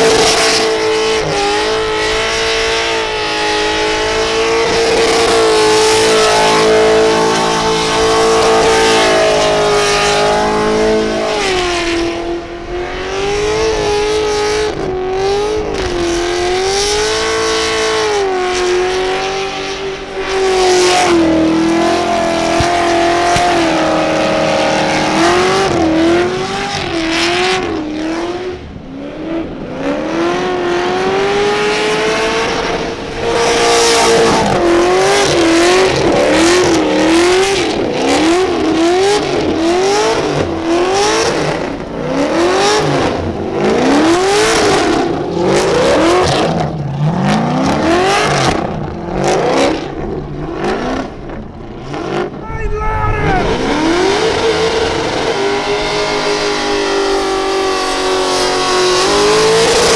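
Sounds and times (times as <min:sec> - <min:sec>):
car engine revving high: 0:00.0 - 0:59.9
spinning tyres roaring: 0:00.0 - 0:59.9.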